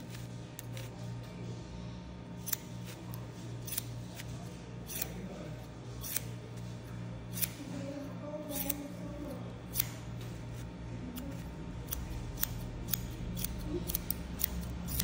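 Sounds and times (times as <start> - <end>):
shears snipping hair: 0.0 - 1.3, 2.4 - 15.0
steady low hum: 0.0 - 15.0.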